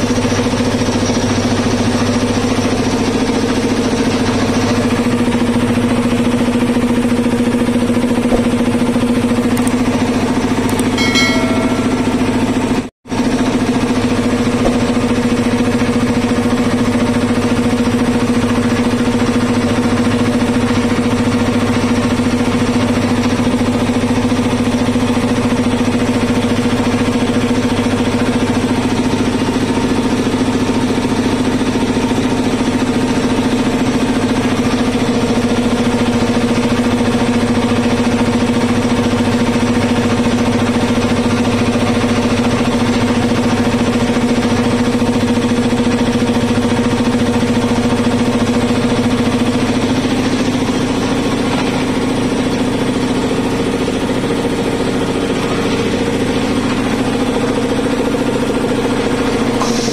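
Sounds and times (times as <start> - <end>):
air compressor running: 0.0 - 59.9.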